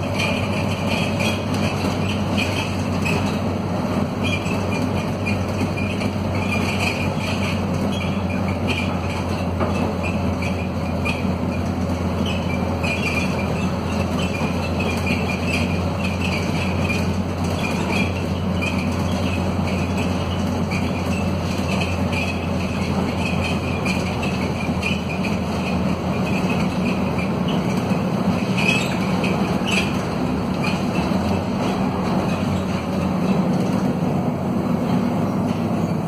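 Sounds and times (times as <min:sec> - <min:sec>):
bus bodywork rattling: 0:00.0 - 0:36.0
diesel bus engine hum: 0:00.0 - 0:36.0.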